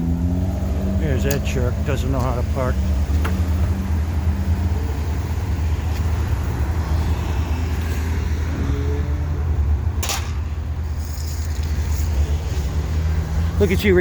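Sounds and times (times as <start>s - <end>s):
street traffic noise: 0.0s - 14.0s
vehicle engine rumbling: 0.0s - 14.0s.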